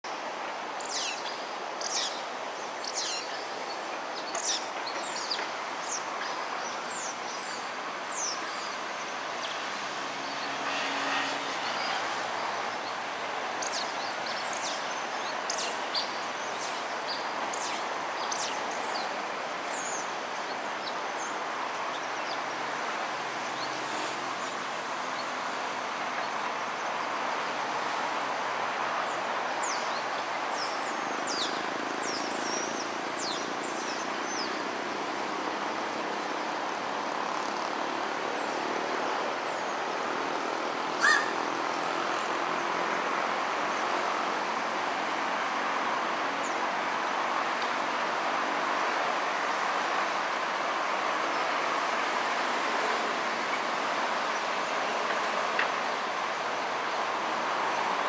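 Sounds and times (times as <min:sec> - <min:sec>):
distant city traffic hiss: 0:00.1 - 0:58.0.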